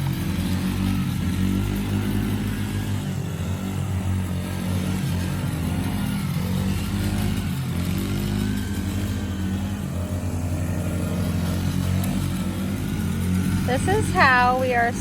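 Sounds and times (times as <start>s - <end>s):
small four-wheeler engine running: 0.0s - 15.0s.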